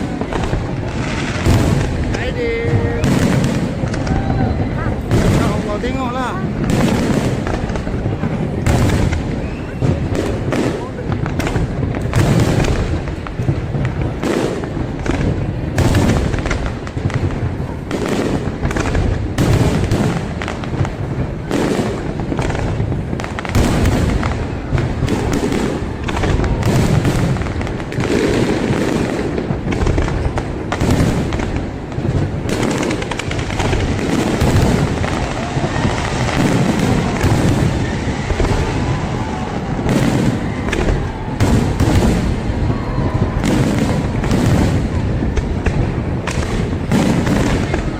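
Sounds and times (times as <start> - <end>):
fireworks banging: 0.0 - 47.9.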